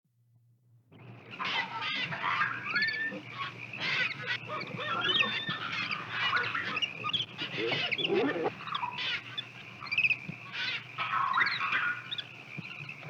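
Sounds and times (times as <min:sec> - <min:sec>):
birds calling: 0:01.2 - 0:13.0
monkeys chattering: 0:01.4 - 0:12.4.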